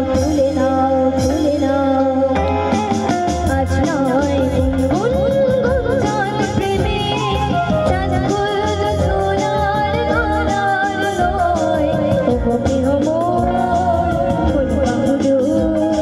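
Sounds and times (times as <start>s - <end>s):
band with guitars and keyboard: 0.0s - 16.0s
girl singing into a microphone: 0.0s - 16.0s.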